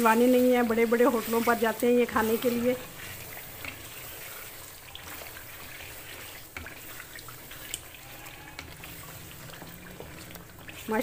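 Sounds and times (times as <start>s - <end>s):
wet squelching of stirring: 0.0s - 11.0s.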